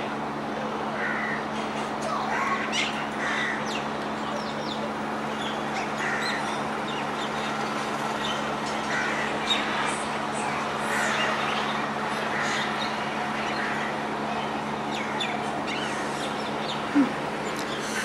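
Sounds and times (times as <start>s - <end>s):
steady low hum: 0.0s - 18.0s
birds chirping: 1.0s - 18.0s.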